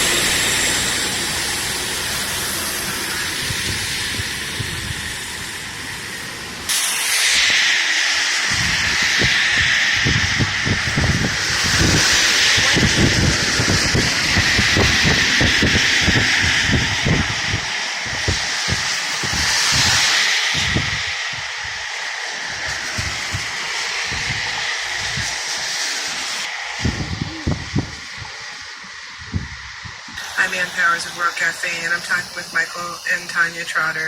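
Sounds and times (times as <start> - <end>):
tyre spray hiss on wet road: 0.0 - 34.0
wind buffeting microphone: 0.0 - 34.0.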